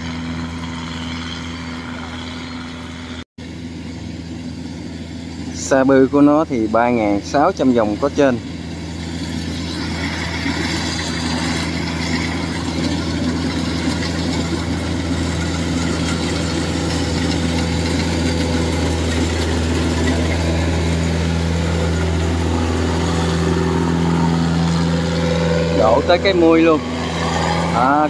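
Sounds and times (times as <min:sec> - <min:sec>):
combine harvester engine droning: 0:00.0 - 0:28.0.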